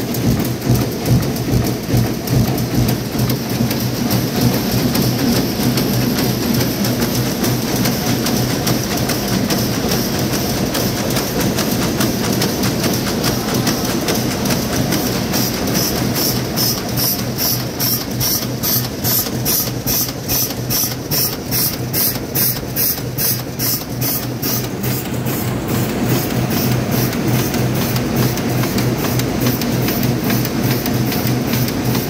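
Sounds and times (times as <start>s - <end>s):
machine clacking: 0.0s - 32.0s.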